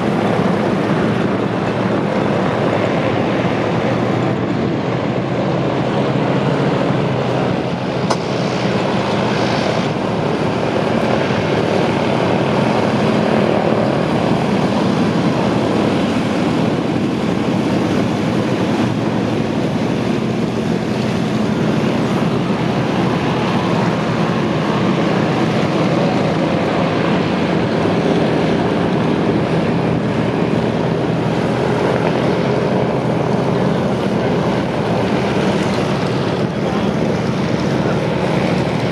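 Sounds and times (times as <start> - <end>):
propeller aircraft engines droning: 0.0 - 38.9.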